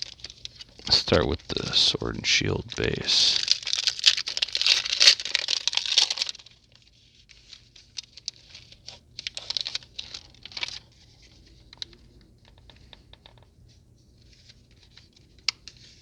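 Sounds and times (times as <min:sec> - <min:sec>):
foil wrapper crinkling: 0:00.0 - 0:13.5.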